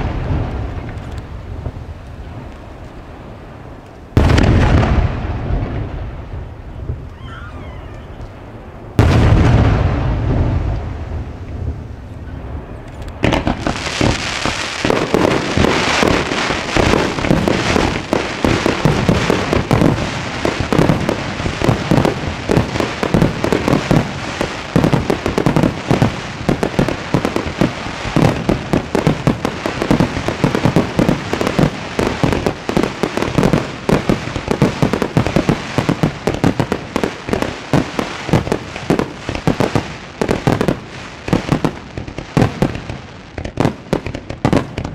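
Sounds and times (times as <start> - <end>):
fireworks crackling pops and bangs: 0.0 - 7.2, 7.9 - 44.9.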